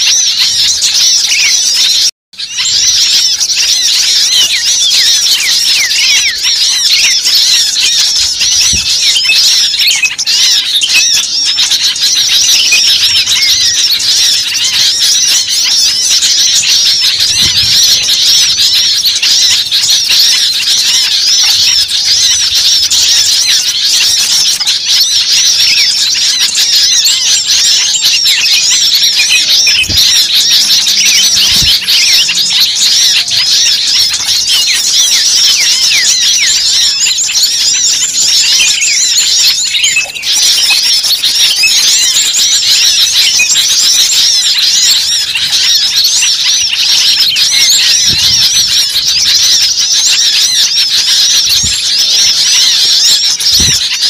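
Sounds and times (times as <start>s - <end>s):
chorus of songbirds chirping: 0.0s - 54.0s.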